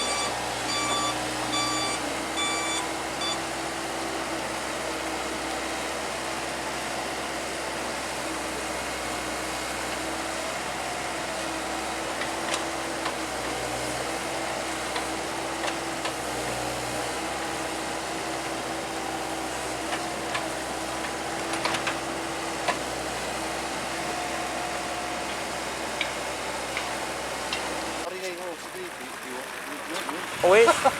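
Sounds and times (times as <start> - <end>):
hydraulic whine: 0.0 - 28.1
excavator diesel engine running: 0.0 - 30.7.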